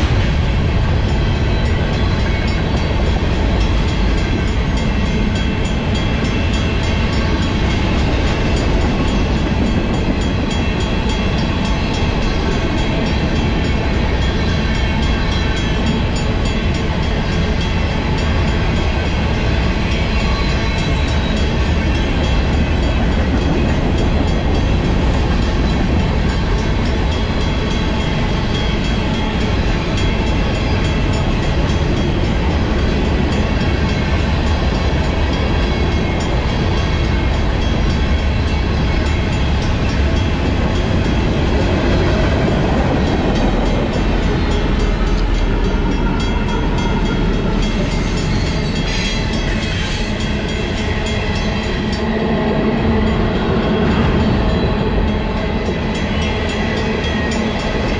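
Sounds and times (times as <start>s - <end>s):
crossing bell ringing: 0.0s - 57.9s
freight train rolling on rails: 0.0s - 57.9s.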